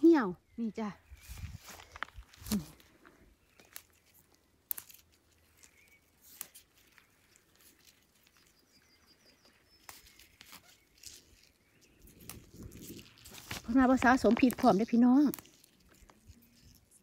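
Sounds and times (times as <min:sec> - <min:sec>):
grass stems rustling and snapping: 0:01.1 - 0:17.0.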